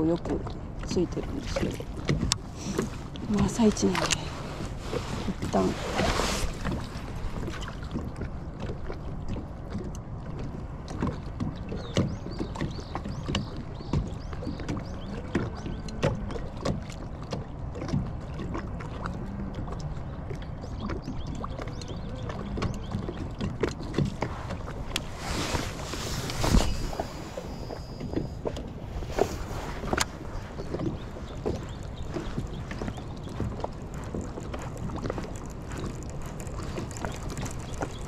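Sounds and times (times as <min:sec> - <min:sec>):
waves lapping against boat hull: 0:00.0 - 0:38.0.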